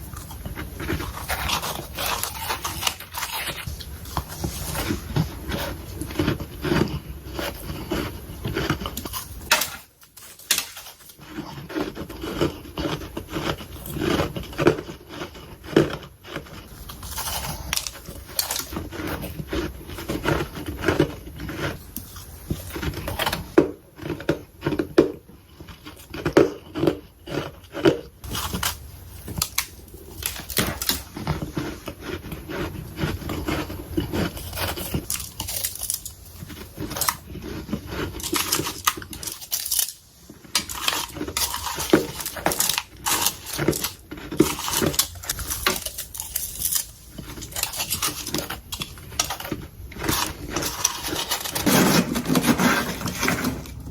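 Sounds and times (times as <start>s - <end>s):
chewing crunchy frost: 0.0s - 53.9s.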